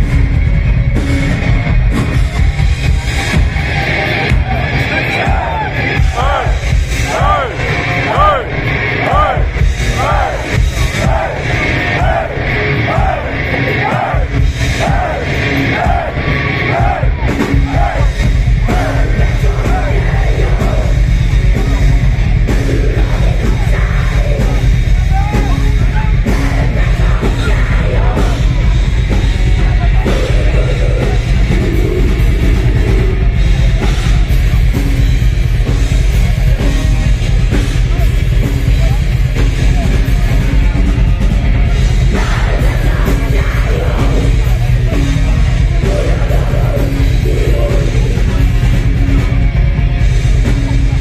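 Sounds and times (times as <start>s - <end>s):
live thrash metal band: 0.0s - 51.0s.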